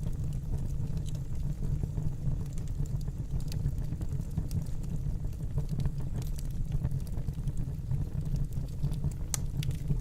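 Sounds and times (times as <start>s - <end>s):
fire crackles and pops: 0.0s - 10.0s
wood fire rumbling: 0.0s - 10.0s.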